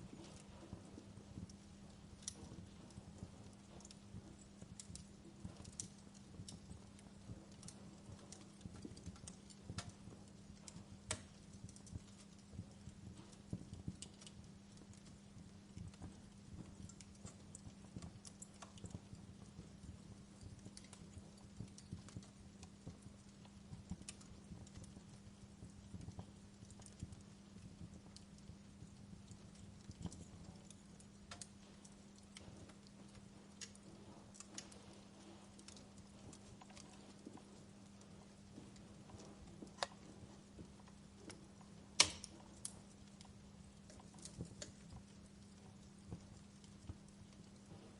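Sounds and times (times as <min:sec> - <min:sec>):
faint steady hum: 0:00.0 - 0:47.9
soft hiss: 0:00.0 - 0:47.9
wood fire crackling: 0:00.0 - 0:47.9.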